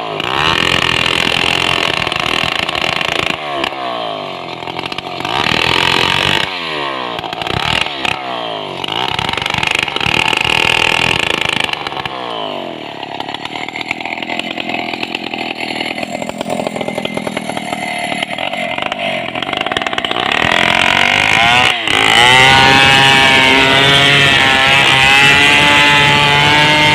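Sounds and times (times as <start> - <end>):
chainsaw cutting log: 0.0 - 26.9.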